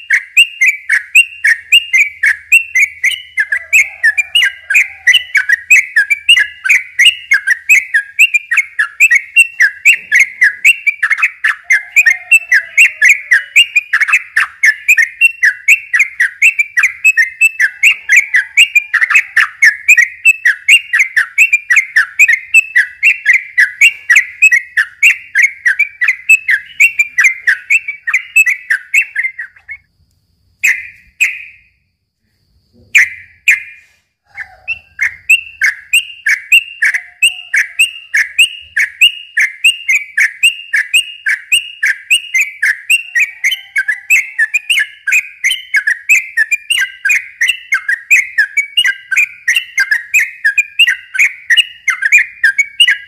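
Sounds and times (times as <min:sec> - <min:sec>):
bulbul chattering song: 0:00.0 - 0:31.9, 0:32.5 - 0:53.0.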